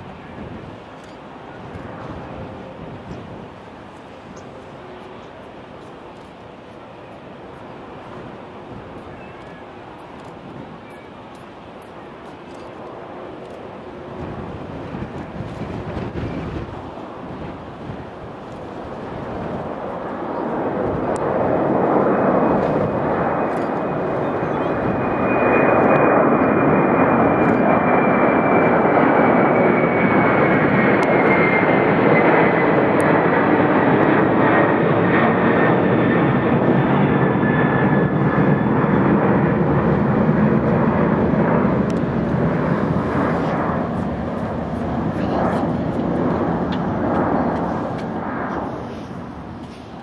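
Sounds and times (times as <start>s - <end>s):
jet engines roaring: 0.0s - 50.0s.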